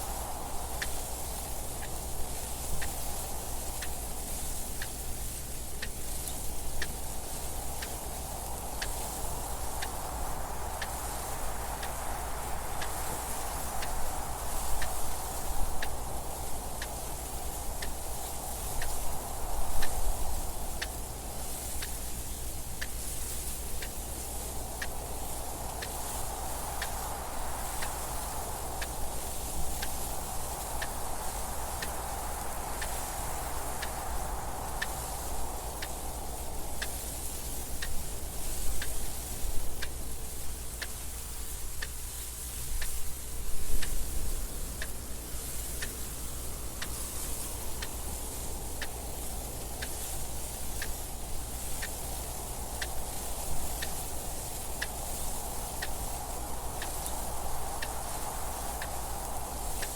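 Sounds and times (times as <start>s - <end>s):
soft wind: 0.0s - 59.9s.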